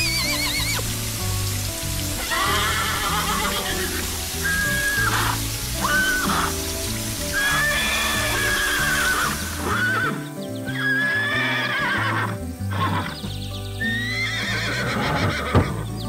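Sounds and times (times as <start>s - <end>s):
horse whinnying: 0.0s - 0.9s, 2.2s - 6.6s, 7.3s - 13.2s, 13.8s - 15.9s
background music: 0.0s - 16.0s.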